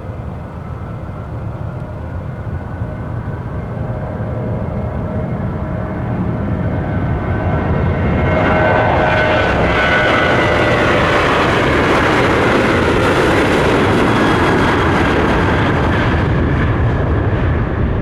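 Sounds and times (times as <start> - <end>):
jet engines roaring with whine: 0.0 - 18.0.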